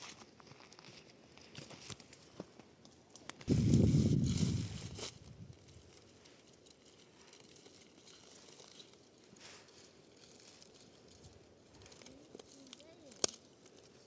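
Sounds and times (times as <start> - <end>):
soft rustle: 0.0 - 14.0.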